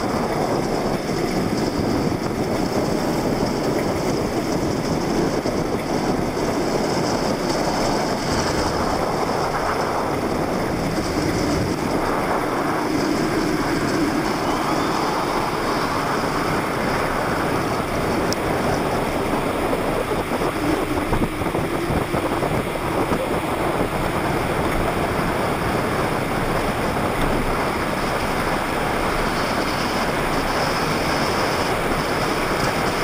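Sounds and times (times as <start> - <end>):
plastic wheels rolling on asphalt: 0.0 - 33.0
wind buffeting microphone: 0.0 - 33.0.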